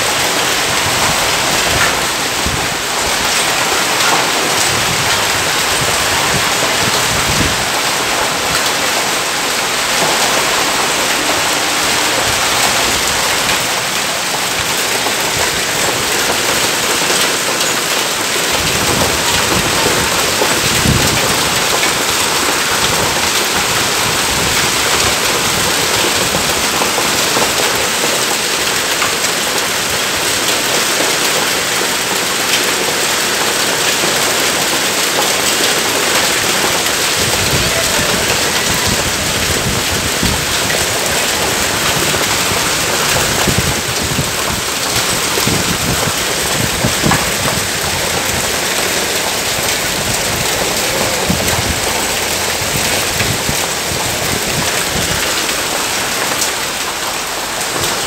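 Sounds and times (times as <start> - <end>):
heavy rain pouring on paving: 0.0 - 58.0.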